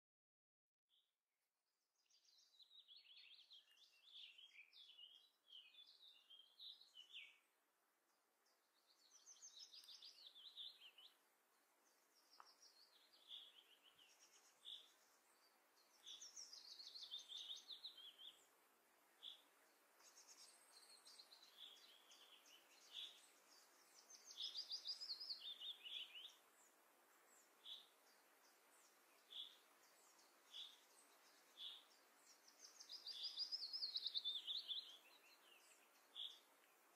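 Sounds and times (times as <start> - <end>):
faint songbirds chirping: 1.8 - 36.9.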